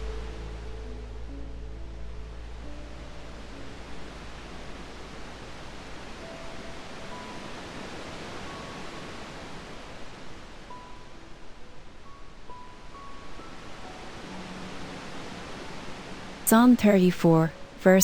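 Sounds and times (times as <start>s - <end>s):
soft ambient music: 0.0s - 18.0s.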